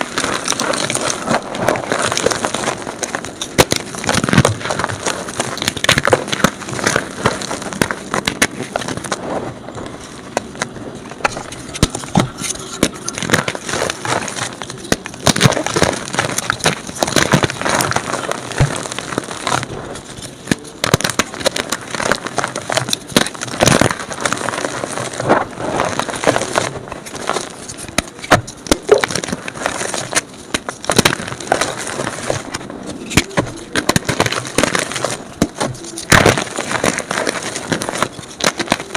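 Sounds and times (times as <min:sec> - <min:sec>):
chalk crunching and crackling: 0:00.0 - 0:38.9.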